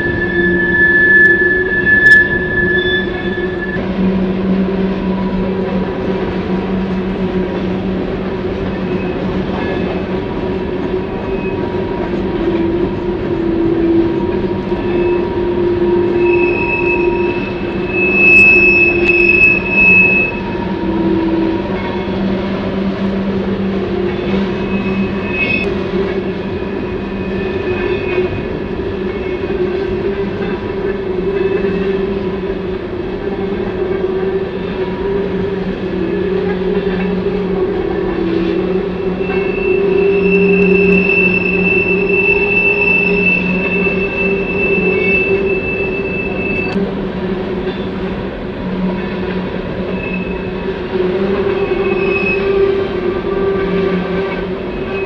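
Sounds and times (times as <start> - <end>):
wheel squeal: 0.0 - 7.5, 8.6 - 23.1, 23.8 - 32.0, 33.6 - 46.8, 49.8 - 55.0
freight train wheels rumbling: 0.0 - 55.0.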